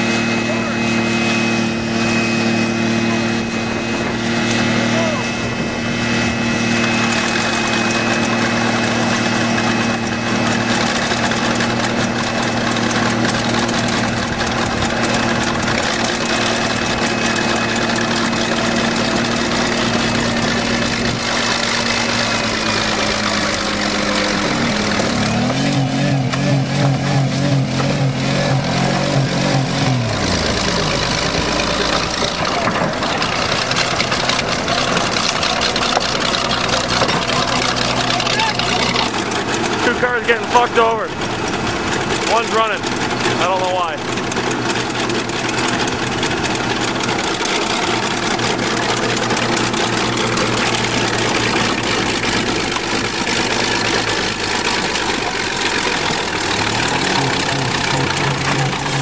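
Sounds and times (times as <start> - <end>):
bulldozer diesel engine: 0.0 - 59.0
car engine running fast: 0.0 - 59.0
deeper engine note wavering: 0.0 - 59.0.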